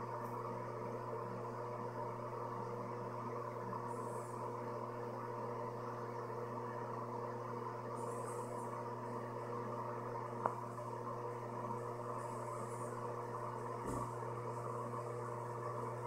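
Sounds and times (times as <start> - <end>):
low mechanical hum with hiss: 0.0 - 16.0.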